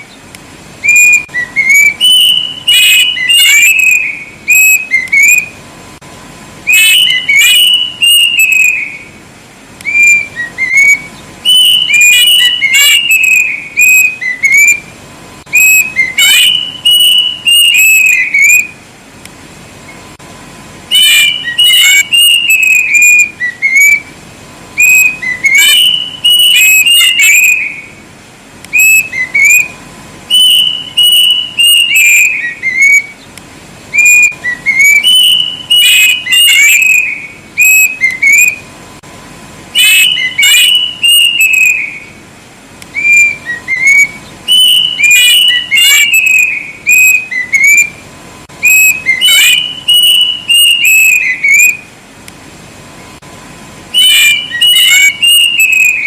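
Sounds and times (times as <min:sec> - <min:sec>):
cuckoo whistled phrases: 0:00.8 - 0:05.6, 0:06.6 - 0:09.2, 0:09.8 - 0:14.9, 0:15.5 - 0:18.8, 0:20.9 - 0:28.0, 0:28.7 - 0:33.3, 0:33.9 - 0:38.7, 0:39.8 - 0:42.2, 0:42.9 - 0:51.9, 0:53.9 - 0:56.0.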